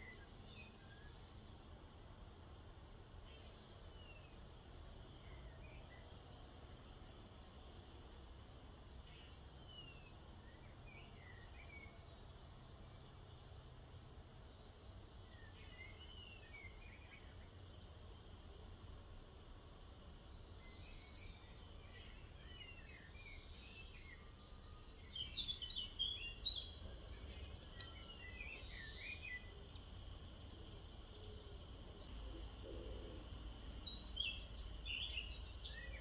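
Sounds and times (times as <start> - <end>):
birds chirping: 0.0 - 36.0
low steady hum: 0.0 - 36.0.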